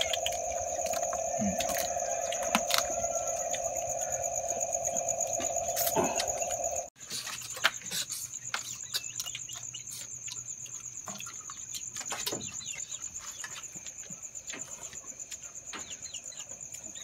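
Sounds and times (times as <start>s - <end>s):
night insects trilling: 0.0s - 17.0s.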